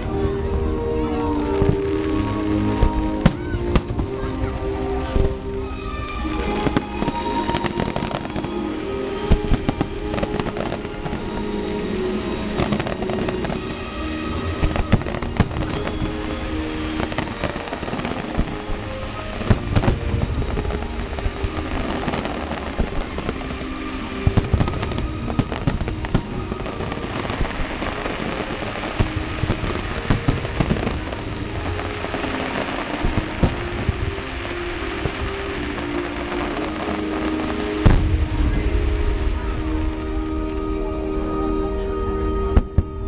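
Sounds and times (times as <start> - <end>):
fireworks cracking and booming: 0.0 - 43.0
music with long held notes: 0.0 - 43.0.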